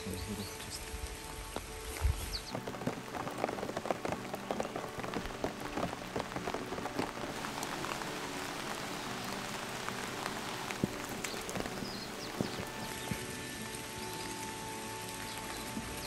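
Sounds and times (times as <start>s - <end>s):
rain pattering on hard surfaces: 0.0s - 16.0s.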